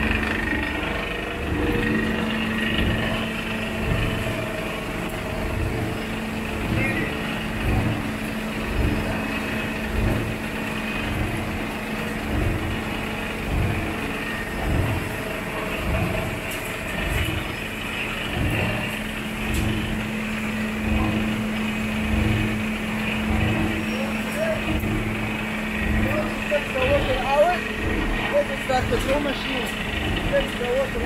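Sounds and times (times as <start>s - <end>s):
low rhythmic throb: 0.0s - 31.0s
shredding machine humming: 0.0s - 31.0s.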